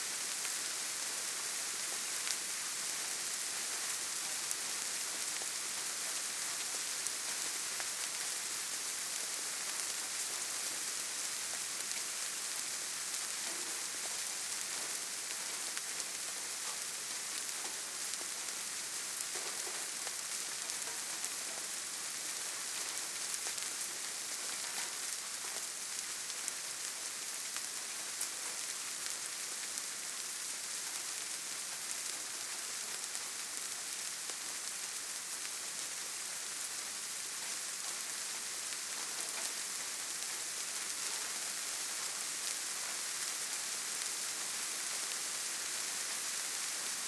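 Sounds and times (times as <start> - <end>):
rain on foliage: 0.0 - 47.0.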